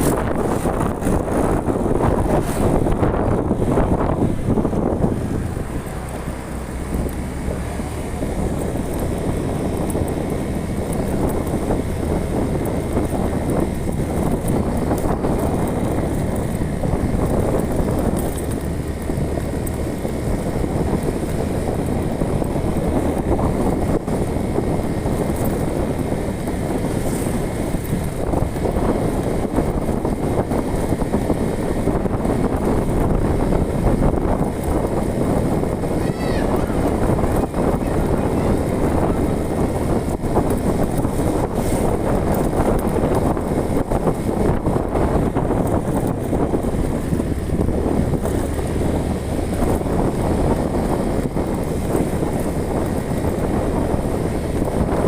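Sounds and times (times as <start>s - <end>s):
vehicle engine and road noise: 0.0s - 55.0s
wind buffeting microphone: 0.0s - 55.0s.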